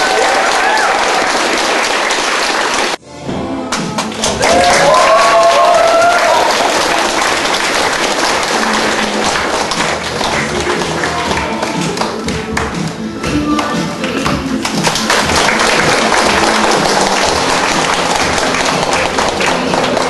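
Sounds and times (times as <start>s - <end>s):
audience applause: 0.0s - 3.0s, 4.0s - 12.1s, 14.6s - 20.0s
music: 3.0s - 20.0s.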